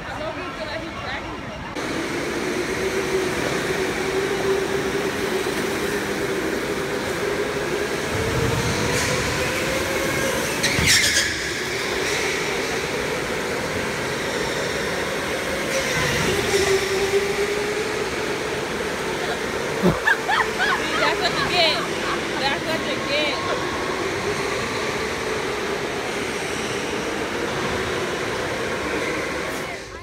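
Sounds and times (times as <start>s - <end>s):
electric motors whining: 1.8s - 30.0s.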